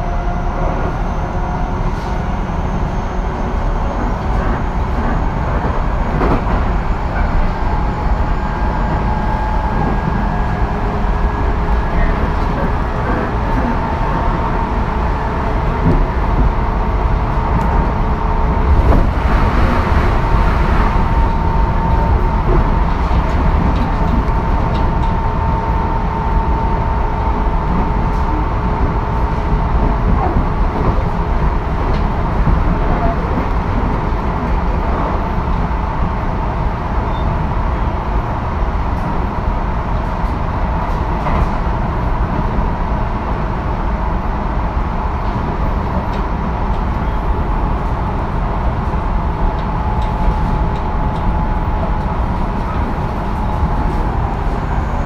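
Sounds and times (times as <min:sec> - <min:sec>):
train wheels and motors rumbling: 0:00.0 - 0:55.0.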